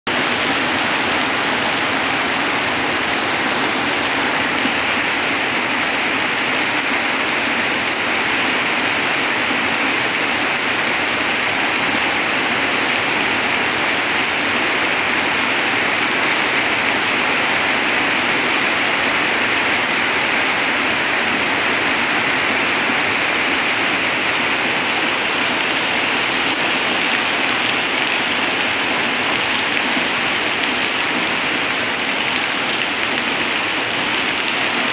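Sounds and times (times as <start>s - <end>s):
heavy rain through leaves: 0.1s - 34.9s.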